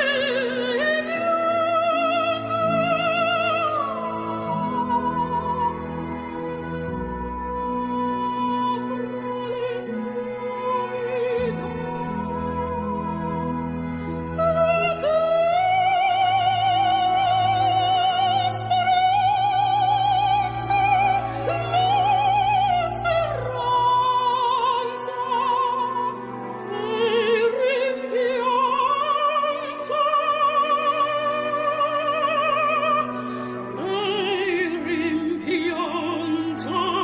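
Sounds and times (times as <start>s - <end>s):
operatic singing: 0.0s - 37.0s.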